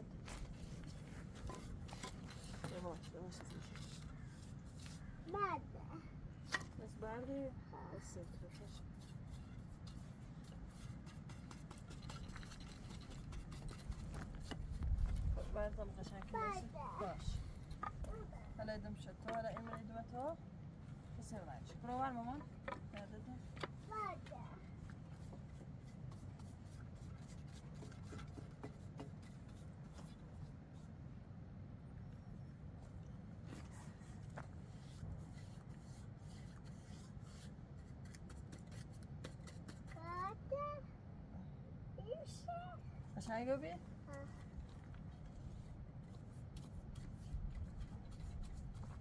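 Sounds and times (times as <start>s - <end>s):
paintbrush scraping on wood: 0.2s - 5.3s, 7.8s - 31.0s, 33.4s - 40.0s, 44.2s - 49.0s.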